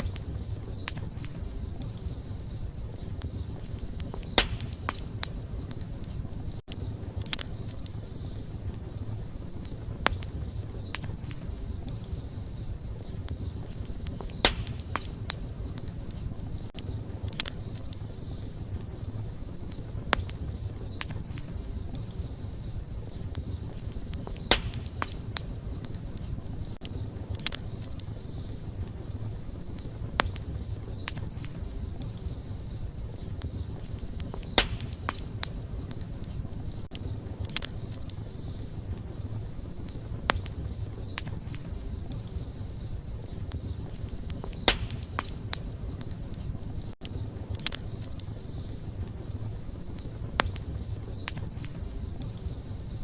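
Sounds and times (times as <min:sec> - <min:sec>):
campfire flames rumbling: 0:00.0 - 0:53.0
fire crackling and popping: 0:00.0 - 0:53.0.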